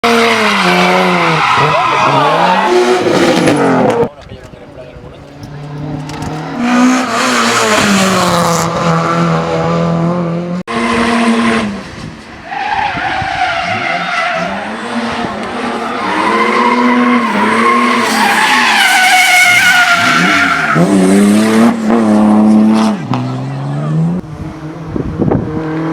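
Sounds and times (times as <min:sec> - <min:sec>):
race car engines revving: 0:00.0 - 0:25.9.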